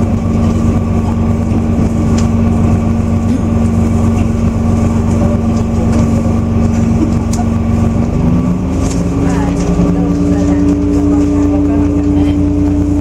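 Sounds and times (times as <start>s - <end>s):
diesel engine drone: 0.0s - 13.0s
wheels rumbling on rail: 0.0s - 13.0s.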